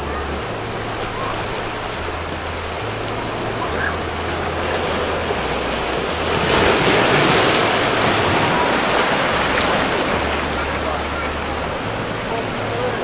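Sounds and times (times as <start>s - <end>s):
ocean surf breaking on rocks: 0.0s - 13.0s.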